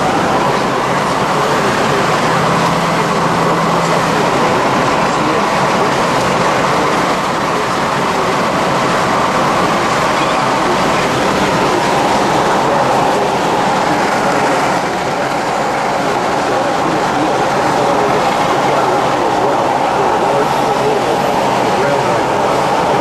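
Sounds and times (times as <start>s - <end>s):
road noise inside vehicle: 0.0s - 23.0s.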